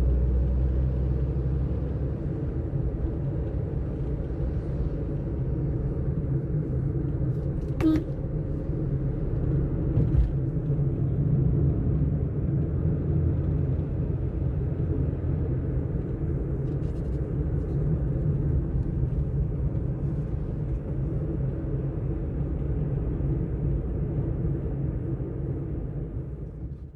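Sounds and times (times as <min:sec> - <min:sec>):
car interior engine rumble: 0:00.0 - 0:26.9.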